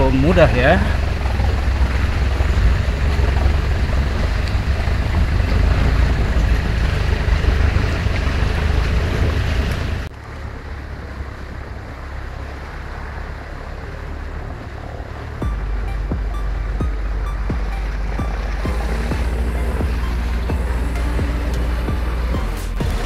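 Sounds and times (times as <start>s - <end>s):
vehicle engine rumble: 0.0s - 23.0s
wind buffeting microphone: 0.0s - 23.0s.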